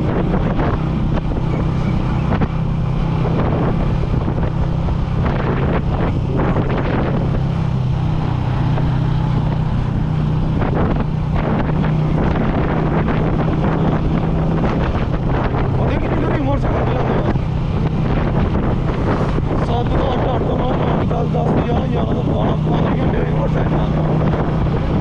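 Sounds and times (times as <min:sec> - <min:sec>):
small motorcycle engine cruising: 0:00.0 - 0:25.0
wind buffeting microphone: 0:00.0 - 0:25.0.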